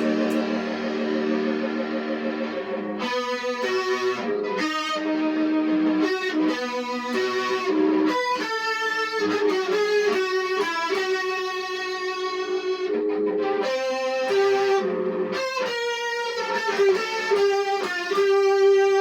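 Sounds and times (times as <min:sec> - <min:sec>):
electric guitar melody: 0:00.0 - 0:19.0.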